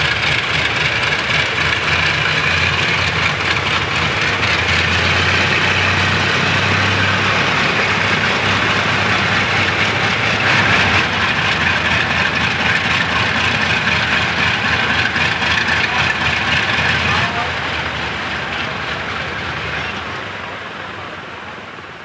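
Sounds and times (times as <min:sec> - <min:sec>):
propeller aircraft engines running: 0:00.0 - 0:22.0.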